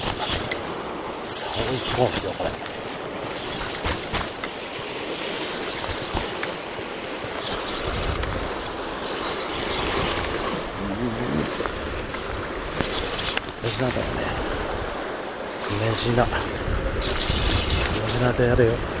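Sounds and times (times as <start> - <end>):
sea surf washing over rocks: 0.0 - 19.0.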